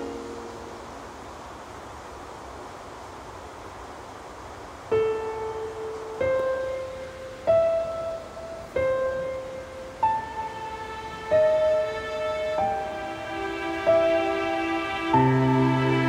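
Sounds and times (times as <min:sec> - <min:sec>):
slow piano melody: 0:00.0 - 0:02.0, 0:04.8 - 0:16.0
steady rain hiss: 0:00.0 - 0:16.0.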